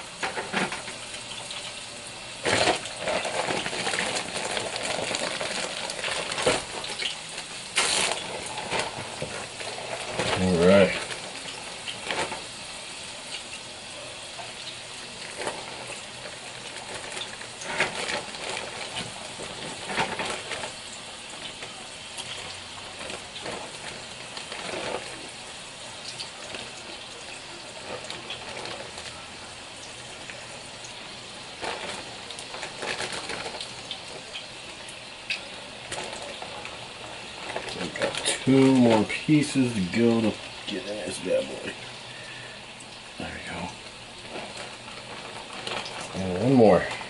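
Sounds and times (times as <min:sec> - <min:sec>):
fish deep-frying in hot oil: 0:00.0 - 0:47.0.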